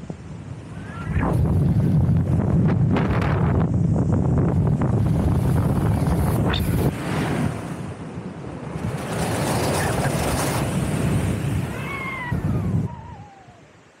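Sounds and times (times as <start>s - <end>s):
wind on microphone: 0.0s - 13.9s.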